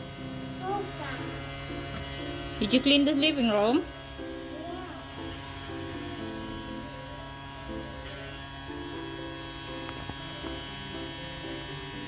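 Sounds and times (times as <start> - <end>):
simple background music tune: 0.0 - 12.0
toy vacuum motor buzzing: 0.0 - 12.0.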